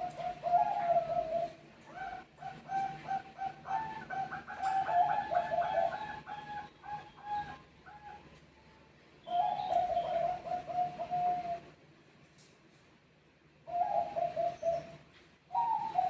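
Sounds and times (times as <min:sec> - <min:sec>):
doves cooing: 0:00.0 - 0:08.4, 0:09.3 - 0:11.8, 0:13.6 - 0:16.0.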